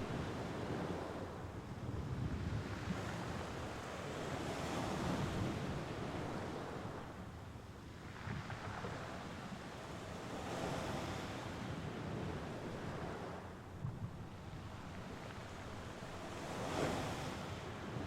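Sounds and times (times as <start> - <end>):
waves washing onto shore: 0.0 - 18.0.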